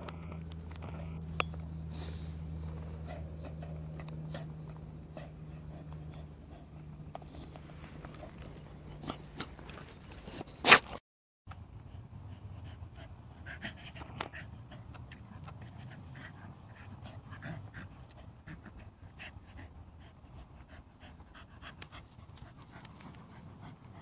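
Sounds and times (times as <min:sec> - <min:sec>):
dog panting: 0:02.6 - 0:09.7, 0:11.8 - 0:24.0.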